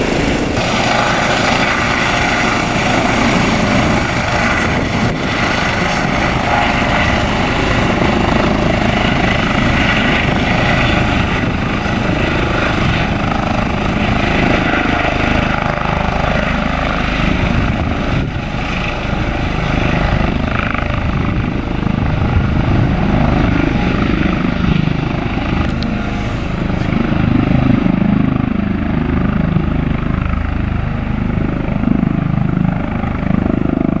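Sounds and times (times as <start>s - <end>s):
helicopter rotor and engine noise: 0.0s - 34.0s
high turbine whine: 0.0s - 34.0s.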